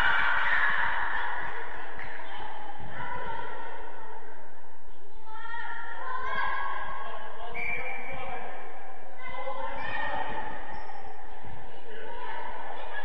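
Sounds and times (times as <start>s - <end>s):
players shouting in echoing hall: 0.0s - 13.0s.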